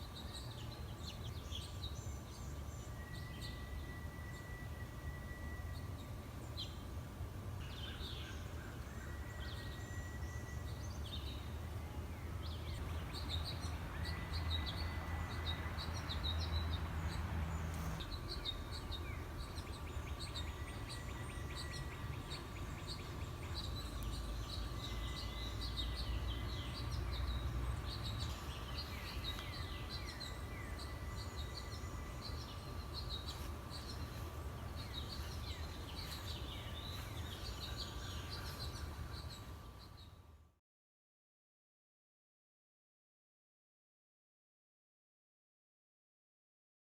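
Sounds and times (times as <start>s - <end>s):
birds chirping: 0.0s - 40.2s.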